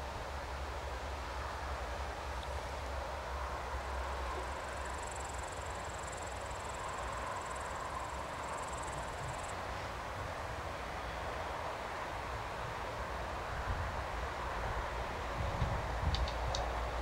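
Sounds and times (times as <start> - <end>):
locomotive rumbling with hiss: 0.0 - 17.0.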